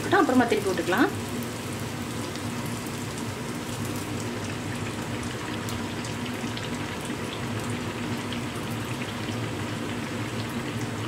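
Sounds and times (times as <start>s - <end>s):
batter deep-frying in hot oil: 0.0s - 11.0s.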